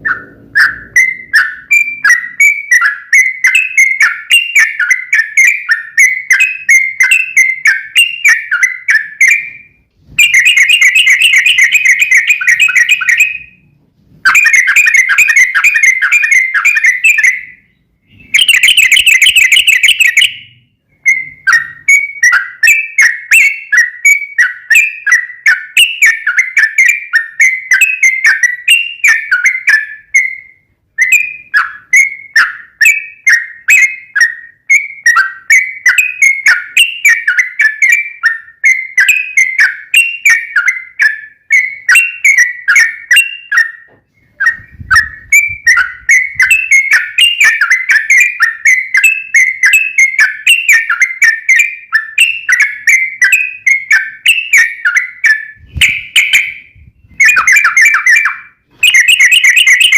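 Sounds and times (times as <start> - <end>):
bird singing trills and chirps: 0.0 - 59.9.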